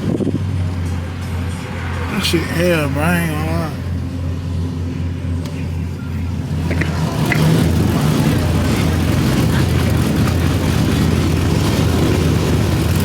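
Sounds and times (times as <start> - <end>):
car engine and exhaust: 0.0 - 13.0
road noise: 0.0 - 13.0.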